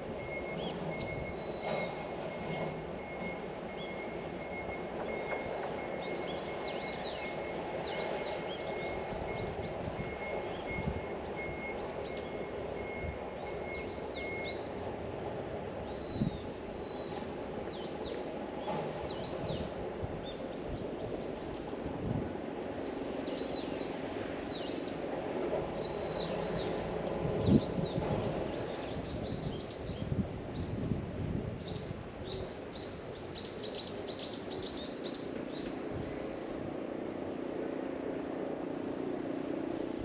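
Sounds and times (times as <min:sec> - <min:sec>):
outdoor background hum: 0:00.0 - 0:40.0.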